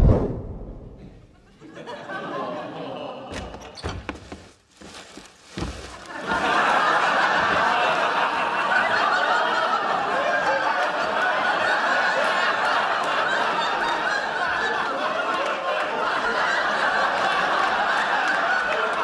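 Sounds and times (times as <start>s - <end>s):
studio audience laughing: 1.3s - 3.8s, 5.9s - 19.0s.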